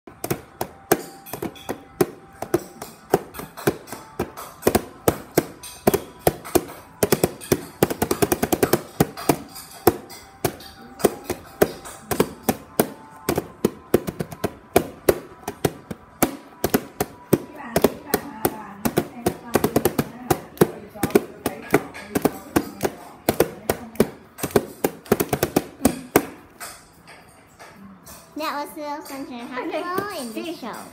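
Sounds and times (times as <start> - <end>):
hands drumming on a box: 0.1 - 26.5.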